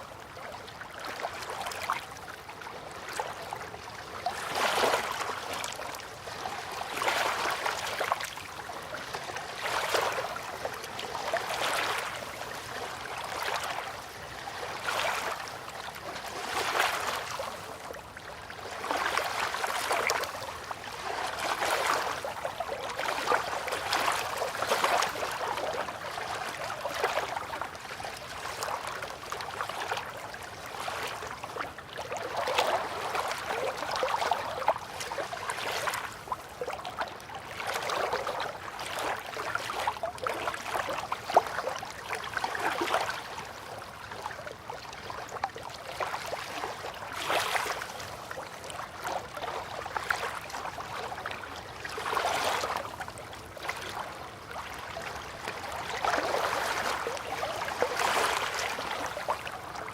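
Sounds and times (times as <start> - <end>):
river water lapping: 0.0 - 59.9.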